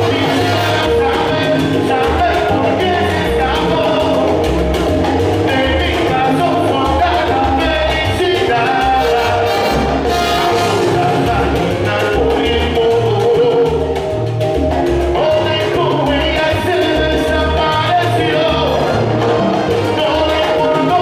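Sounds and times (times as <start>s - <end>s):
person singing: 0.0s - 4.7s, 5.4s - 14.2s, 15.0s - 21.0s
salsa band playing: 0.0s - 21.0s.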